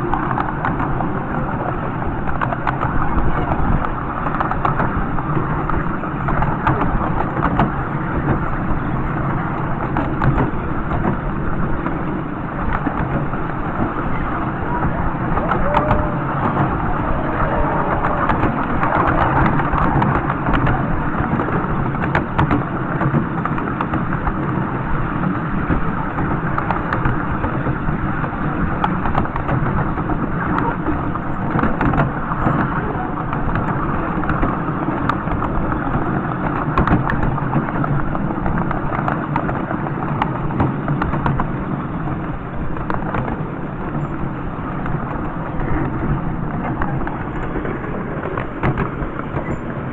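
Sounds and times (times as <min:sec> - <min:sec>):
miniature train wheels rumbling on track: 0:00.0 - 0:49.9.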